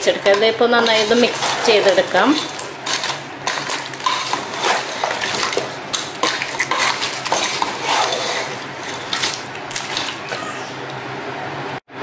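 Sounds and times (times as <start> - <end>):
crab shells clattering in a pot: 0.0 - 10.5.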